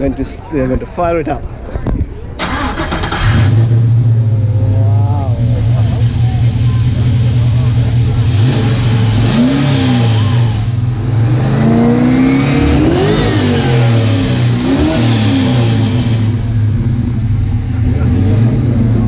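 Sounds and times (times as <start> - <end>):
car engine idling and revving: 2.4 - 19.0.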